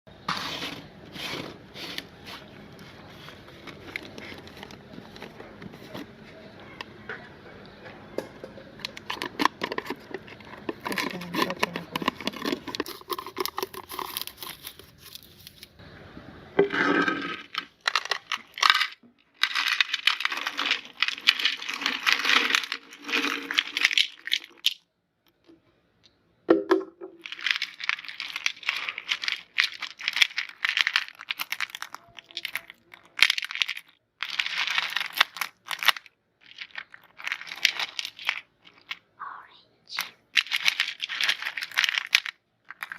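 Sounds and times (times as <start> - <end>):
candies crackling and clattering: 0.1 - 15.8, 16.6 - 26.2, 27.2 - 39.2, 39.9 - 42.9.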